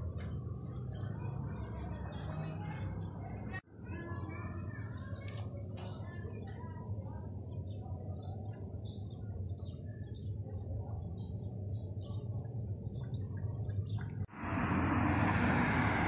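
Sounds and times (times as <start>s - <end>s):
low outdoor rumble: 0.0s - 16.0s
small birds chirping: 0.1s - 14.3s.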